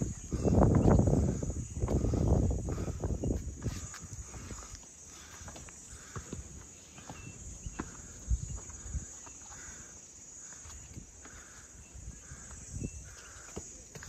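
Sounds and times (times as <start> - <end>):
footsteps on a path: 0.0 - 14.0
insects chirring: 0.0 - 14.0.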